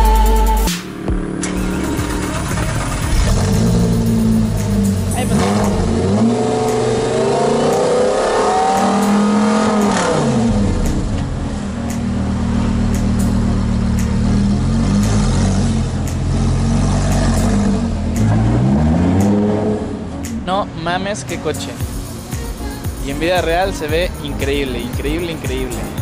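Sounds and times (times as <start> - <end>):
car engine revving: 0.8 - 26.0.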